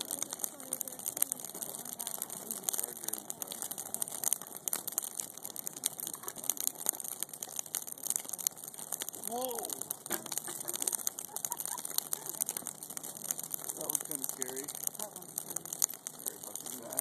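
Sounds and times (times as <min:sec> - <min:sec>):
branches crackling in fire: 0:00.0 - 0:17.0.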